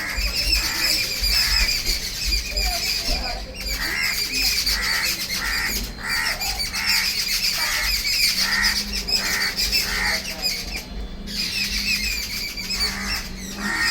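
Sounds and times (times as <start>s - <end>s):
harsh squawky bird call: 0.0s - 13.9s
high-pitched bird chatter: 0.0s - 13.9s.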